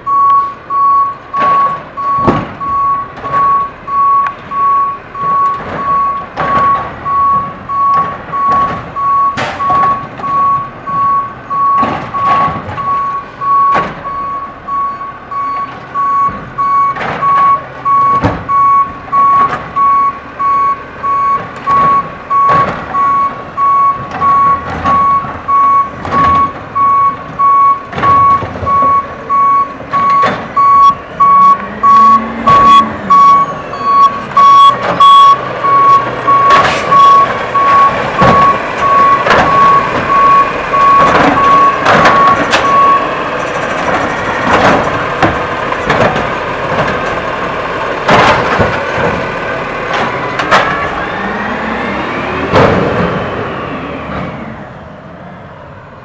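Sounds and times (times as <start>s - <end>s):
truck backup alarm beeping: 0.0s - 53.4s
truck engine revving: 0.0s - 56.0s
trash cart banging and clattering: 0.1s - 54.4s.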